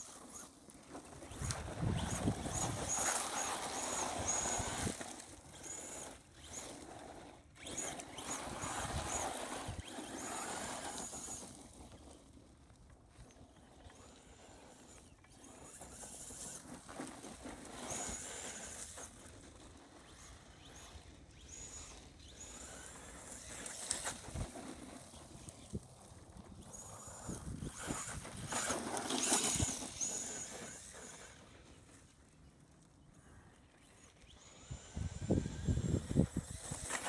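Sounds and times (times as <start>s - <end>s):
toy truck motor and tyres on dirt: 0.0s - 37.0s.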